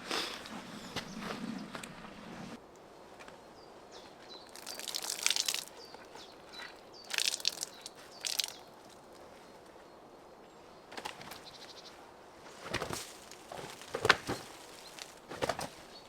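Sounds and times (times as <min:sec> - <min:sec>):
small birds chirping: 0:00.2 - 0:02.0, 0:02.8 - 0:16.0.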